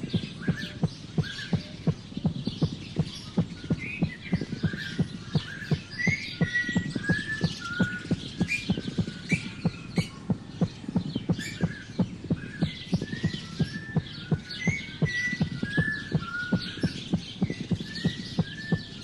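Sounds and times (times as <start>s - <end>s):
rapid low thumping: 0.0s - 19.0s
small birds chirping and whistling: 0.0s - 19.0s.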